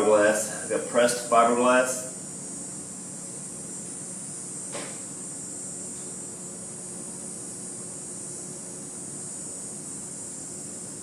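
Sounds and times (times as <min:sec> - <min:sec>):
propane torch hissing: 0:00.0 - 0:11.0.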